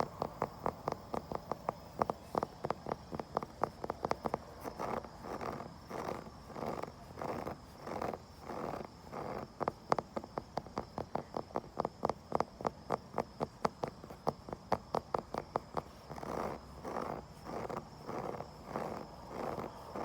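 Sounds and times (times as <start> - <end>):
rasping scratches on wood: 0.0 - 20.0.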